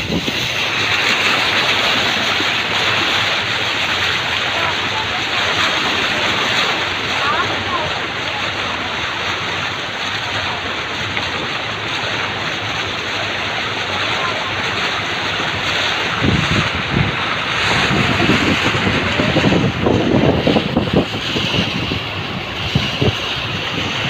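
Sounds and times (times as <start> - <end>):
steady rushing noise: 0.0 - 24.0
wind buffeting microphone: 0.0 - 24.0.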